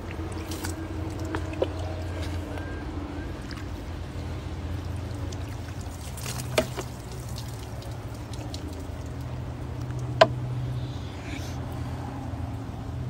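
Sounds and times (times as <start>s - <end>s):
steady low hum: 0.0s - 13.0s
water trickling and splashing: 0.0s - 13.0s.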